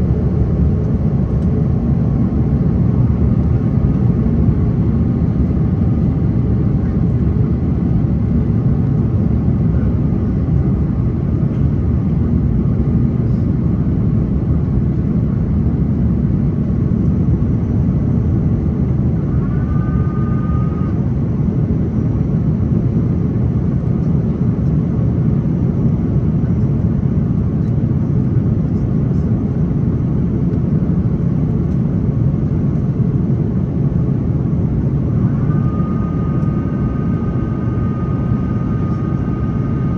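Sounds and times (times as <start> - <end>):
airplane cabin engine noise: 0.0 - 39.9.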